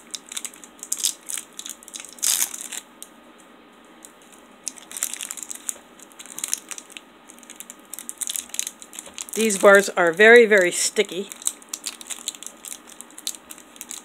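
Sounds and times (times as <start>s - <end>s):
plastic wrapper crinkling: 0.0s - 3.1s, 4.0s - 14.0s.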